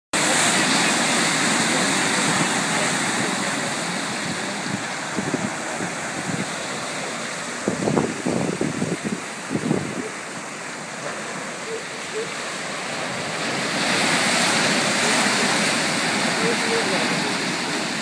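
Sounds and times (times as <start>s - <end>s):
floodwater rushing over a wall: 0.2s - 18.0s.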